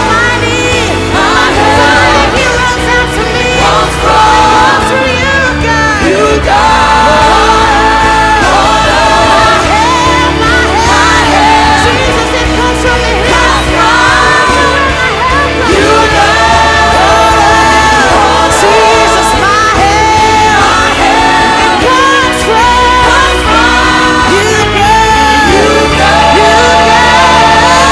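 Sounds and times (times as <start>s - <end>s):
worship band playing: 0.0s - 27.9s.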